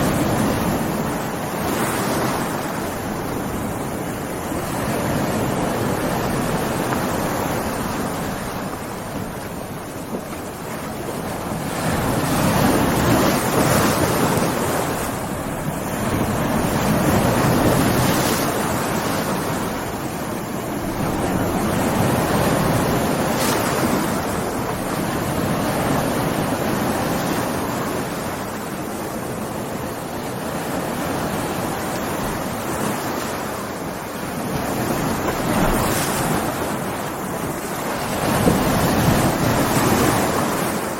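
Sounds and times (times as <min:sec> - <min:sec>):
heavy surf breaking: 0:00.0 - 0:40.9
wind over water: 0:00.0 - 0:40.9.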